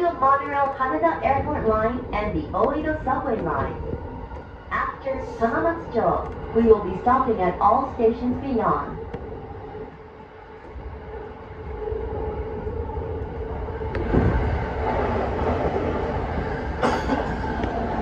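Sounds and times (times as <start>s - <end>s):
train passing alongside: 0.0s - 18.0s.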